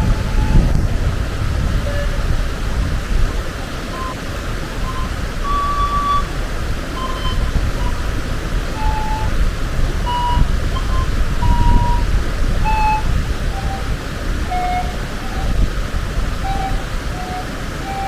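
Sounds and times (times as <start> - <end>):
pan flute playing: 0.0 - 18.0
waterfall rushing: 0.0 - 18.0.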